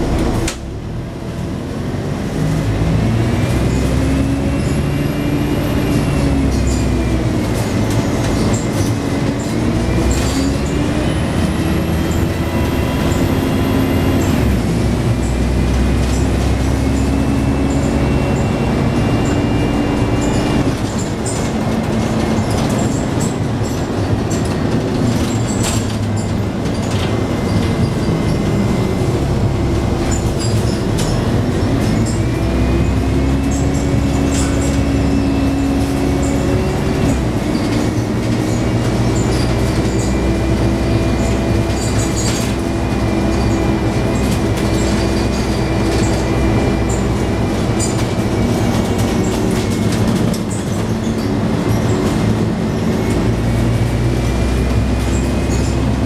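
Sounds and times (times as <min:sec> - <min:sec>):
bus diesel engine drone: 0:00.0 - 0:56.0
drivetrain whine: 0:00.0 - 0:56.0.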